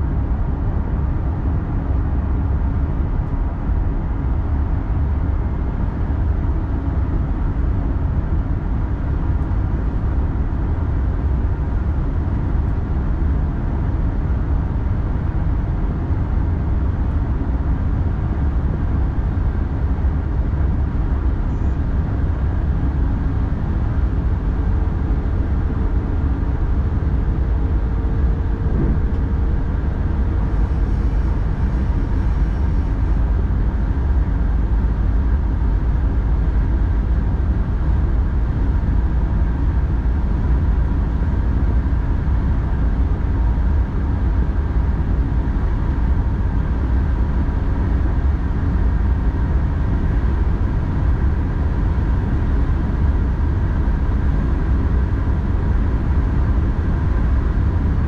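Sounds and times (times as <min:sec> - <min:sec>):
faint steady hum: 0:00.0 - 0:58.0
train running gear rumble: 0:00.0 - 0:58.0.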